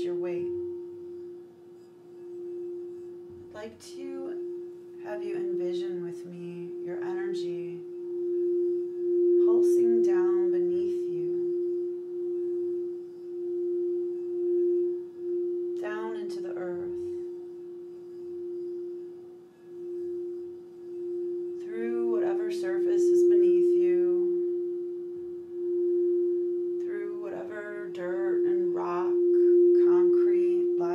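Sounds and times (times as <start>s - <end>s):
singing bowl tone: 0.0s - 30.9s.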